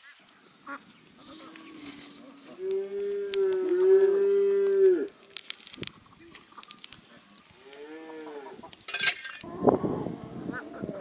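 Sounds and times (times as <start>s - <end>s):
wood fire crackling: 0.0s - 9.5s.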